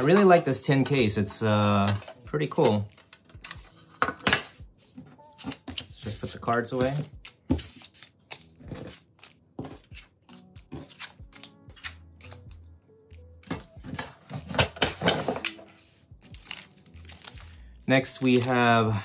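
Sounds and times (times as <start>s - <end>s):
quiet music: 0.0s - 19.0s.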